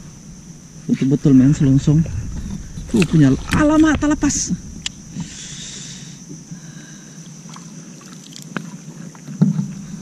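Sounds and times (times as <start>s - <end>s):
water lapping against kayak hull: 0.0s - 10.0s.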